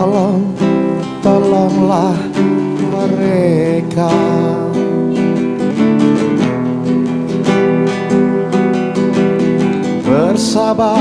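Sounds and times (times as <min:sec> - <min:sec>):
acoustic guitar strumming chords: 0:00.0 - 0:11.0
person singing: 0:00.0 - 0:11.0.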